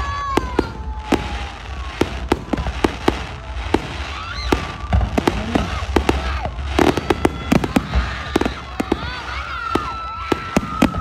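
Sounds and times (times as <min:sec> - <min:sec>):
falling firework whistle: 0:00.0 - 0:11.0
fireworks bangs and pops: 0:00.0 - 0:11.0.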